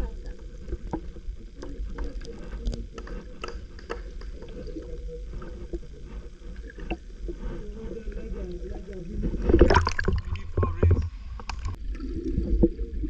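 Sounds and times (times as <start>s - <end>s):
small underwater clicks and crackles: 0.0s - 13.0s
underwater rumble of moving water: 0.0s - 13.0s.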